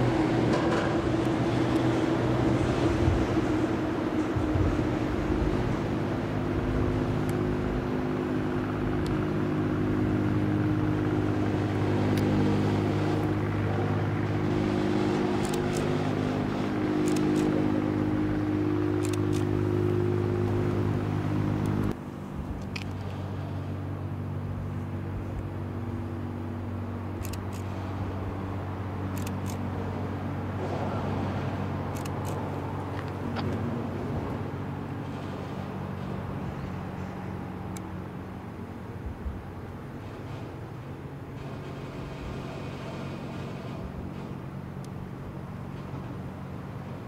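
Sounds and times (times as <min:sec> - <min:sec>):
ship diesel engine drone: 0:00.0 - 0:47.0.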